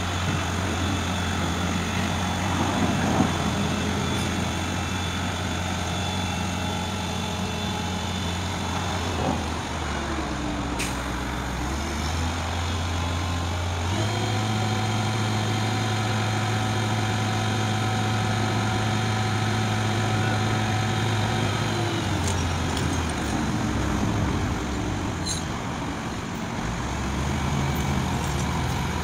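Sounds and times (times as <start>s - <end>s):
crane diesel engine running: 0.0s - 29.0s.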